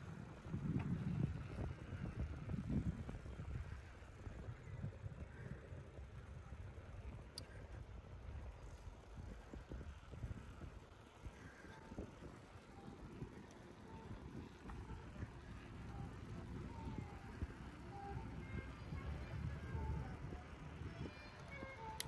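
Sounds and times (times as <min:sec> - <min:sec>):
bicycle rolling: 0:00.0 - 0:22.0
wind rumble on microphone: 0:00.0 - 0:22.0.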